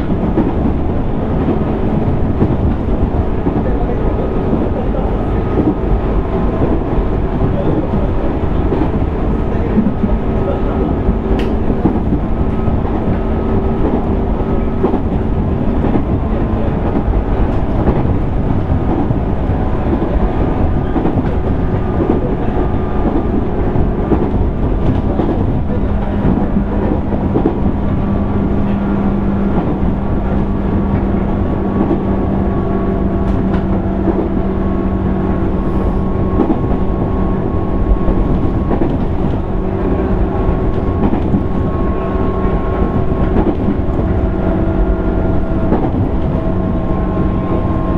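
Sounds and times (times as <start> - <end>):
train running rumble: 0.0 - 47.9.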